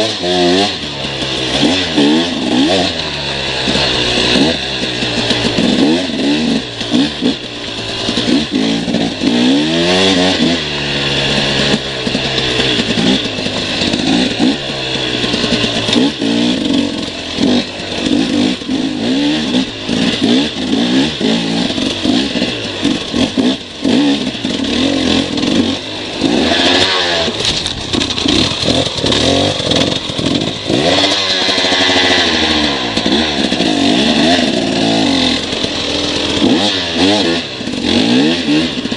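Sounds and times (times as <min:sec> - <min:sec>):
off-road vehicle engines revving: 0:00.0 - 0:38.9.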